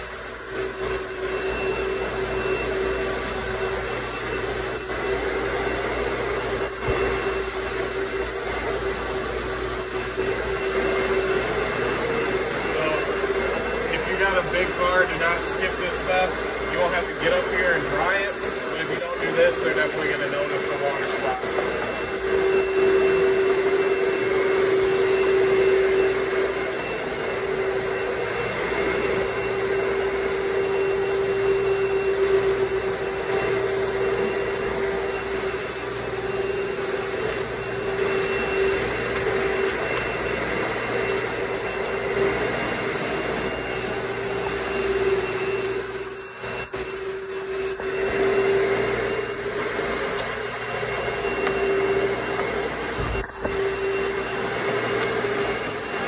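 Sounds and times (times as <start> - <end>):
electric blower motor running: 0.0 - 56.0.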